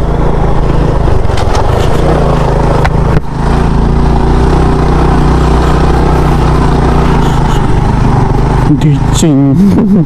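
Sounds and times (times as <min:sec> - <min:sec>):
small motorcycle engine running: 0:00.0 - 0:10.0.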